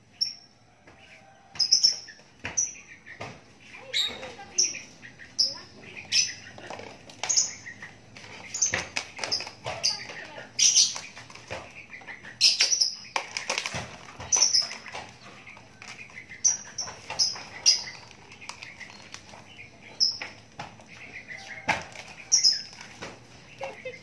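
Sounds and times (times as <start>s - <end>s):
bird chirping: 0.0s - 24.0s
wings fluttering: 1.0s - 24.0s.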